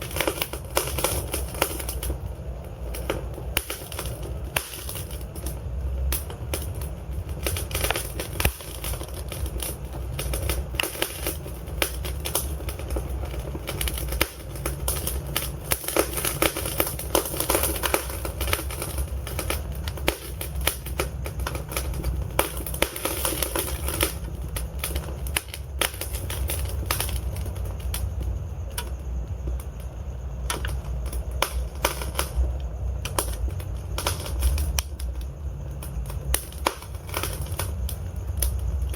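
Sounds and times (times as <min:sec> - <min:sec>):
low rumble of burning logs: 0:00.0 - 0:38.9
wood fire crackling and popping: 0:00.0 - 0:38.9.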